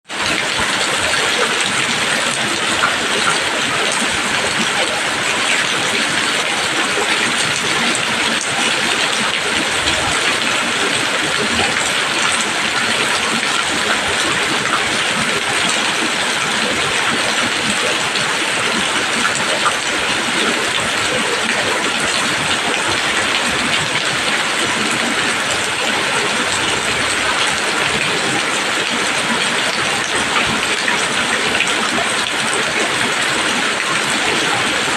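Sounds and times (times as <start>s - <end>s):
heavy rain on leaves: 0.1s - 34.9s.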